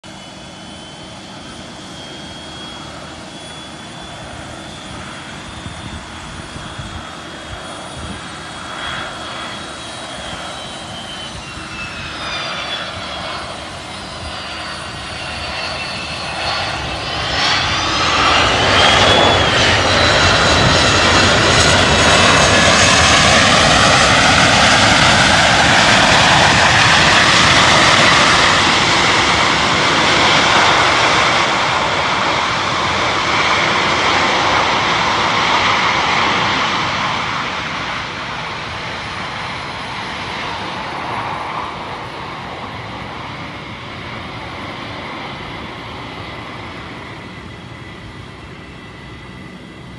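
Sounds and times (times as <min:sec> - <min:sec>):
jet plane approaching: 0:00.0 - 0:49.9.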